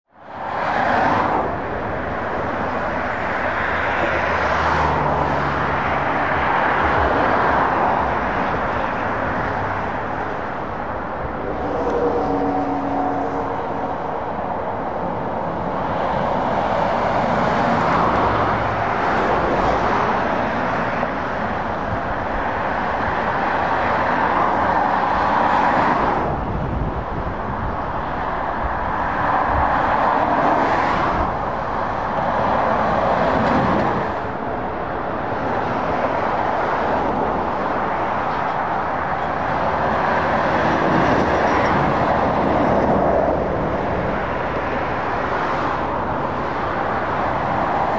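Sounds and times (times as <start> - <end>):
lorries and cars passing: 0.1 - 47.9.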